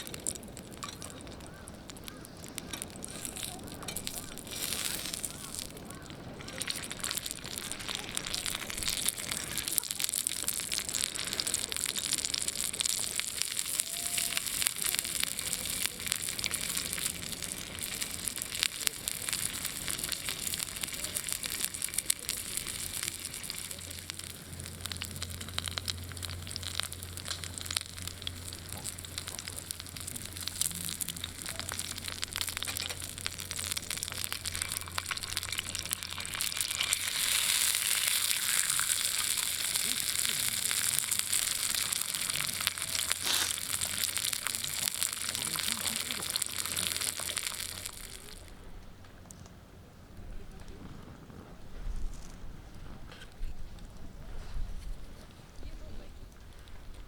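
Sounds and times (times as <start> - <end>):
meat sizzling over campfire: 0.0 - 49.5, 50.4 - 57.0.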